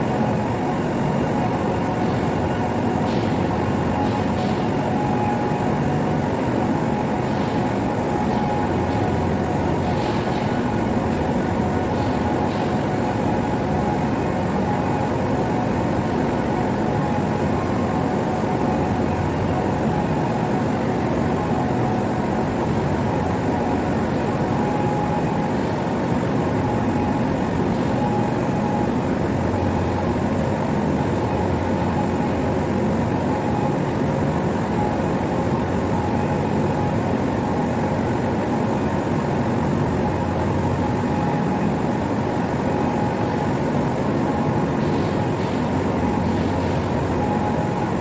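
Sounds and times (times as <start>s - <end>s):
faint machine whine: 0.0s - 48.0s
steady machine noise: 0.0s - 48.0s.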